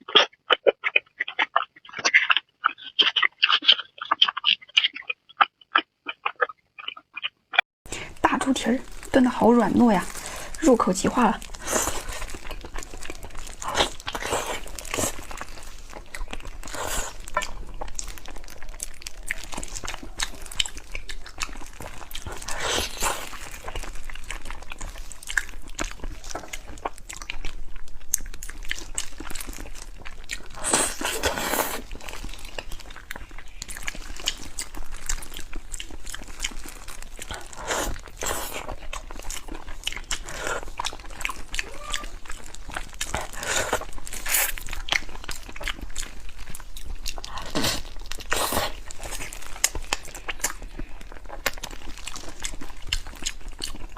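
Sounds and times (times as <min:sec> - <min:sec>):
person chewing wetly: 0:00.0 - 0:53.9.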